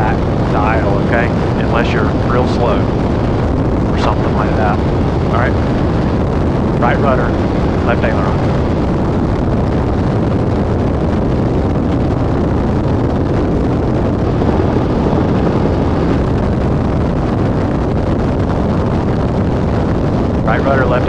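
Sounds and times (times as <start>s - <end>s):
light airplane engine drone: 0.0s - 21.0s.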